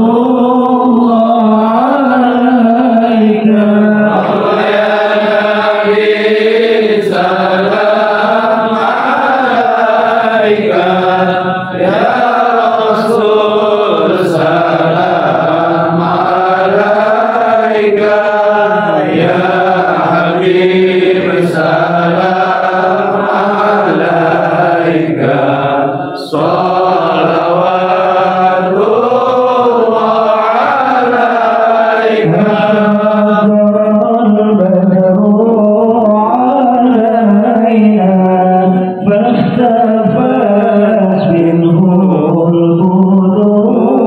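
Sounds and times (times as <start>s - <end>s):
devotional chanting: 0.0s - 44.0s.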